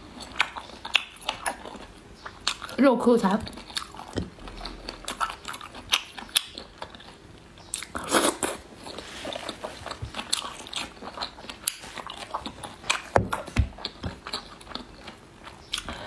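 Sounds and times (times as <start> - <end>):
chewing meat: 0.0 - 2.8, 3.4 - 16.0.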